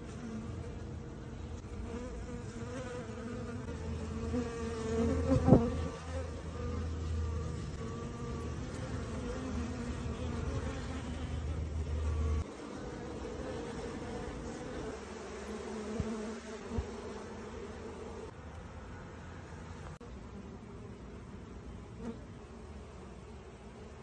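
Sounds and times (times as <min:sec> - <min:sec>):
honeybee swarm buzzing: 0:00.0 - 0:24.0.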